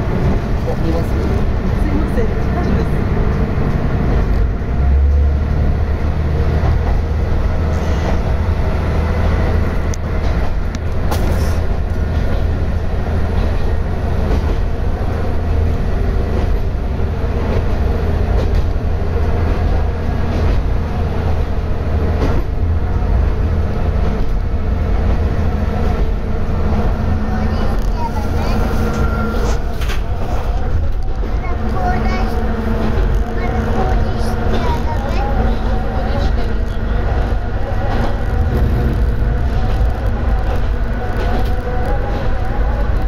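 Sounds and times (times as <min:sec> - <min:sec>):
railcar engine drone: 0:00.0 - 0:43.0
wheel and rail noise: 0:00.0 - 0:43.0.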